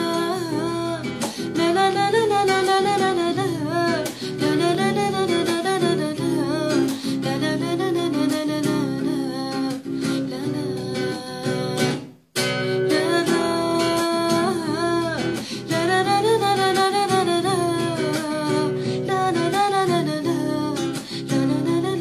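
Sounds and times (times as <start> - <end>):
acoustic guitar: 0.0 - 22.0
woman singing: 0.0 - 22.0.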